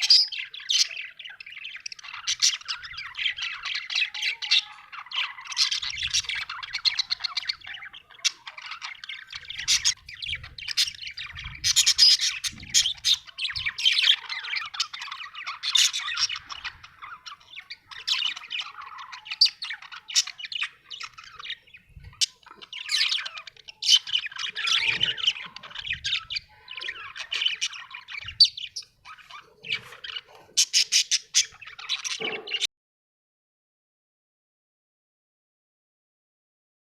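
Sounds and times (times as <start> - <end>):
budgerigar chirping: 0.0 - 32.7.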